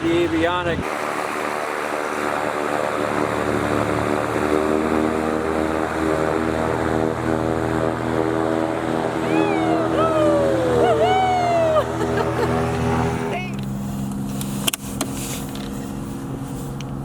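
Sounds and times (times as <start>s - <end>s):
propeller aircraft engine running: 0.0s - 17.0s.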